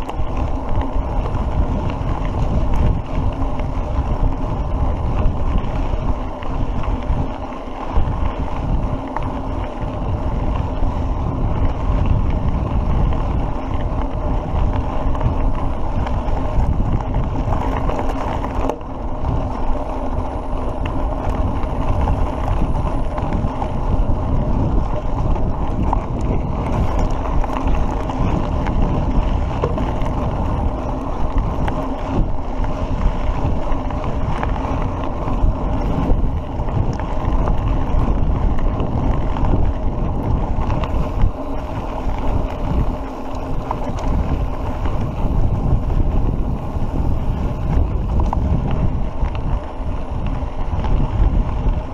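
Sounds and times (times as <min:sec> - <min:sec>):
bike tyre noise on dirt: 0:00.0 - 0:51.9
wind buffeting microphone: 0:00.0 - 0:51.9.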